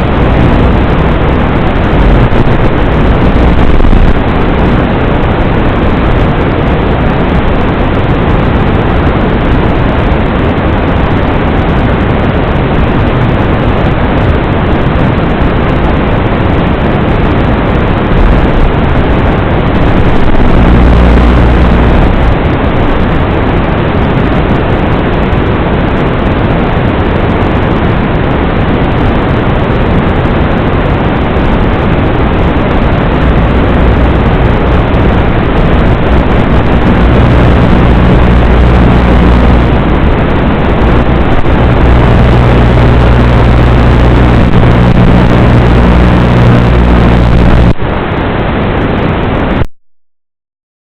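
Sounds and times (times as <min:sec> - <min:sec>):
loud steady rushing noise: 0:00.0 - 0:49.7.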